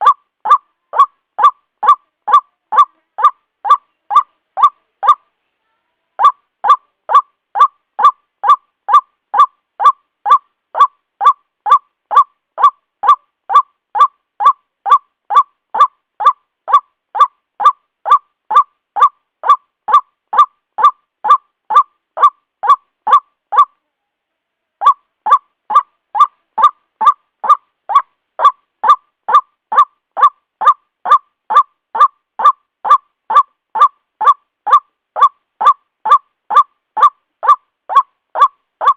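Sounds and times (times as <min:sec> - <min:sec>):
waterhen calling: 0:00.0 - 0:05.2, 0:06.2 - 0:23.7, 0:24.8 - 0:38.9.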